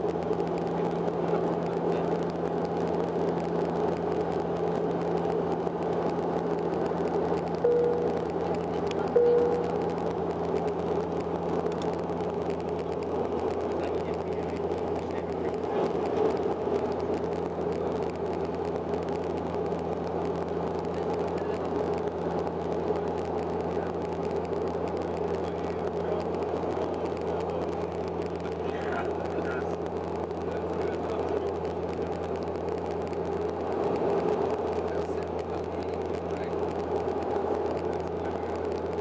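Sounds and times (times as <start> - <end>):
constant low hum: 0.0 - 39.0
turboprop engines droning: 0.0 - 39.0.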